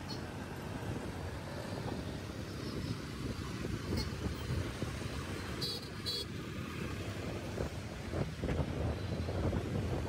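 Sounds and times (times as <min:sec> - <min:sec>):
engines and tyres rumbling: 0:00.0 - 0:10.0.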